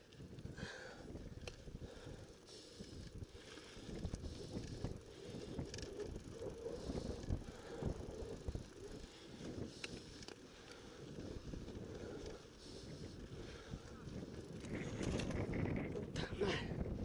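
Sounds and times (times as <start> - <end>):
bike tyres crunching on dirt: 0.0 - 16.0
bike rattling: 0.0 - 17.0.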